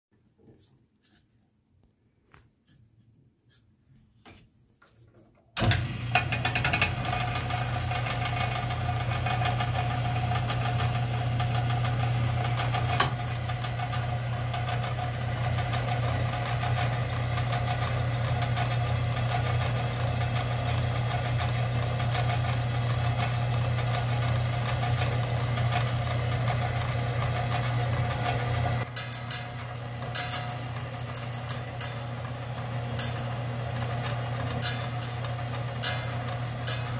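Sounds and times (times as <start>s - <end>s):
slab saw motor humming: 5.6s - 36.9s.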